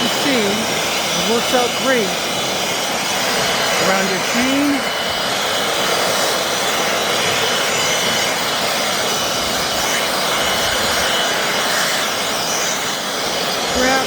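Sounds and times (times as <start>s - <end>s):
leaf blower running: 0.0s - 14.0s.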